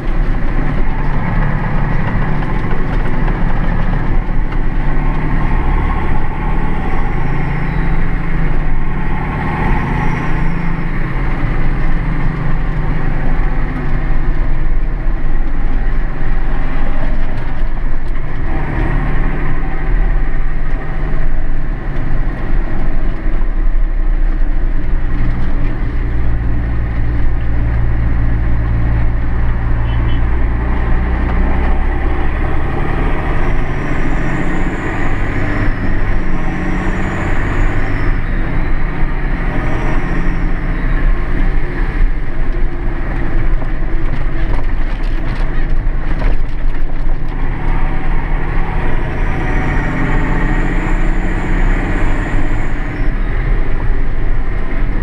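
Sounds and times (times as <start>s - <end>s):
diesel tractor engine running: 0.0s - 55.0s
road noise: 0.0s - 55.0s.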